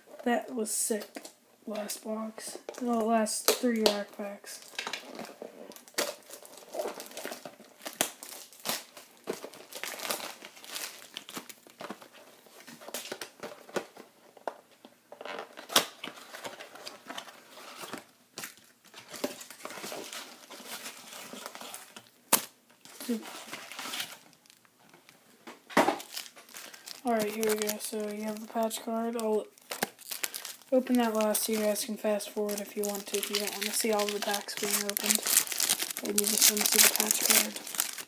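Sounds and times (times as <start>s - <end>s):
plastic wrapper crinkling and tearing: 2.7s - 14.5s, 15.2s - 25.2s, 25.8s - 38.0s.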